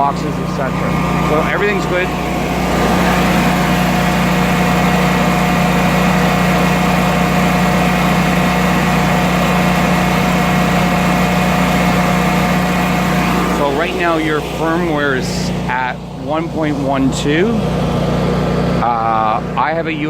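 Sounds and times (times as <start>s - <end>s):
generator running: 0.0s - 20.0s.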